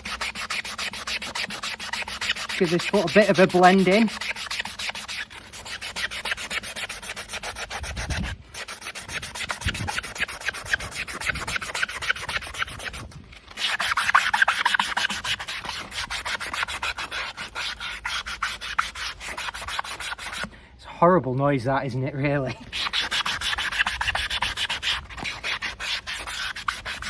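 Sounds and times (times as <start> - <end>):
block scraping horse hoof: 0.0 - 20.5, 22.2 - 27.0.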